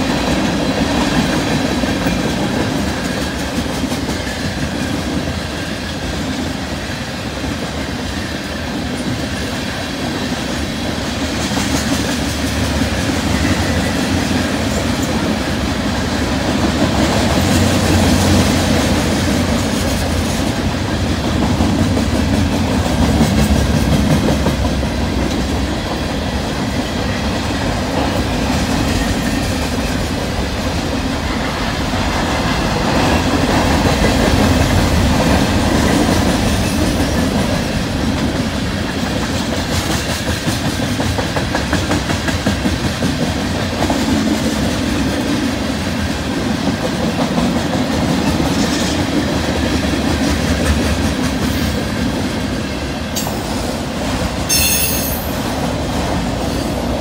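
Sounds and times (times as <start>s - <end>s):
clickety-clack over rail joints: 0.0s - 57.0s
freight train wheels rumbling: 0.0s - 57.0s.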